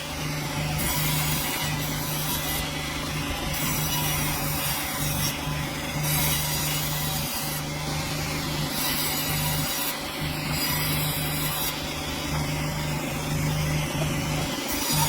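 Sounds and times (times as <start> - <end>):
low motor hum: 0.0 - 15.0
saw cutting log: 0.0 - 15.0.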